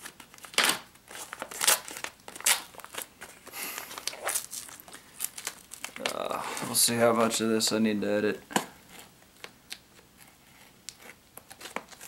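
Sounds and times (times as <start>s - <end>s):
duct tape crinkling and ripping: 0.0s - 7.4s, 8.5s - 12.0s.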